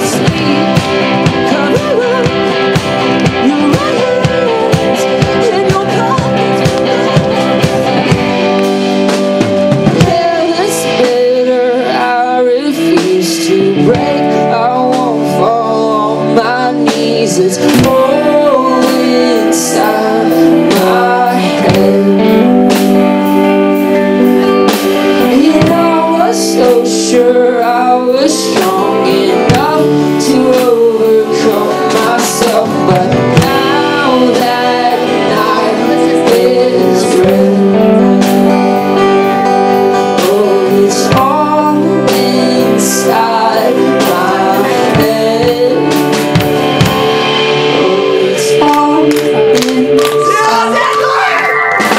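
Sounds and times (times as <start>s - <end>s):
man singing: 0.0s - 8.4s, 9.9s - 23.5s, 25.0s - 46.9s, 47.6s - 51.9s
live rock band playing: 0.0s - 51.9s.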